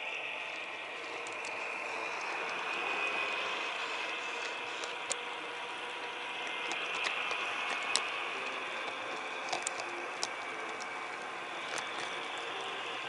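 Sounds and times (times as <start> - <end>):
model train whirring: 0.0 - 13.0.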